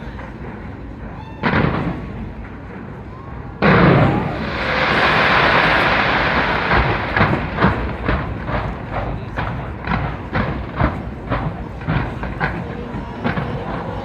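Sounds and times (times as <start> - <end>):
fireworks bangs: 1.4 - 2.9, 3.6 - 14.0.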